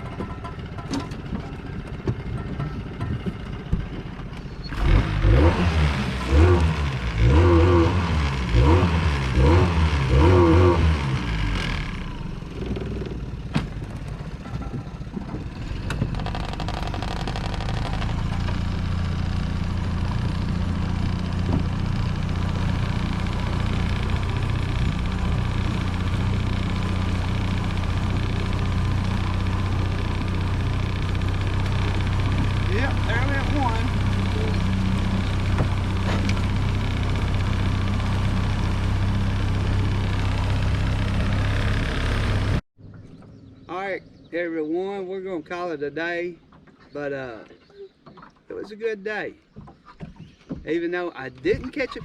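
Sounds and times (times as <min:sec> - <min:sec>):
boat motor running: 0:00.0 - 0:44.3, 0:46.4 - 0:52.0.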